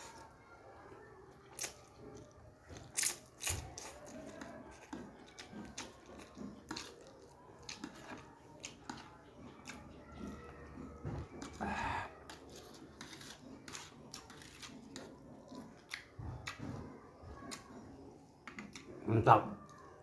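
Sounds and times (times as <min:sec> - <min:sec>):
slurping and chewing noodles: 0:00.0 - 0:20.0.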